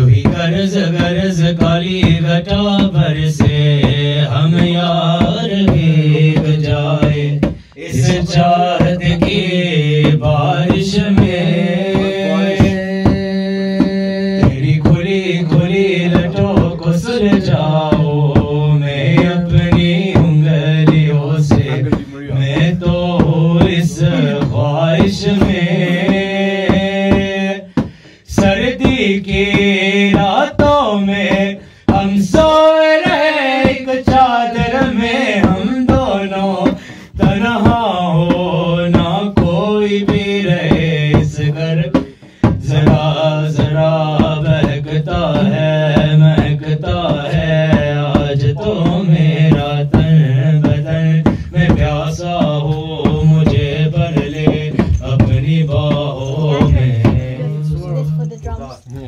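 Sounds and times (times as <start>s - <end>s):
man singing into microphone: 0.0s - 59.0s.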